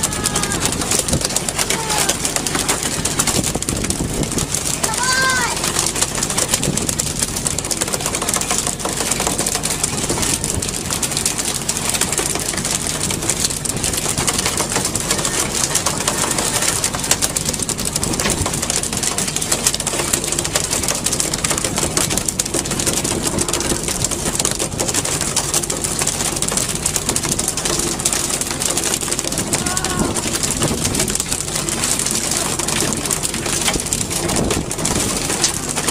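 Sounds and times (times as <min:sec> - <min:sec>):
wind and sea rushing: 0:00.0 - 0:07.9, 0:09.4 - 0:35.9
boat engine running: 0:00.0 - 0:35.9.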